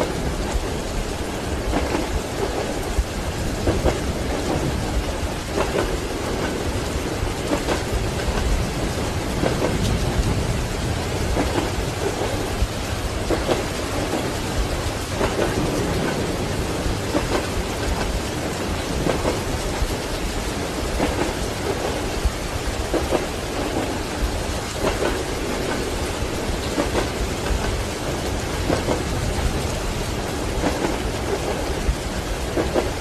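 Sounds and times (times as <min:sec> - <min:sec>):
heavy rain: 0:00.0 - 0:33.0
low thunder rumble: 0:00.0 - 0:33.0
train wheels clacking over rails: 0:00.0 - 0:33.0.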